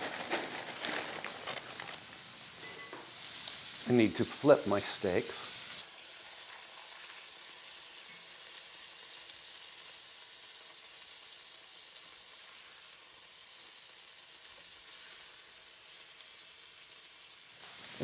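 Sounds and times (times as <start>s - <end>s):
meat sizzling in oil: 2.0s - 18.0s.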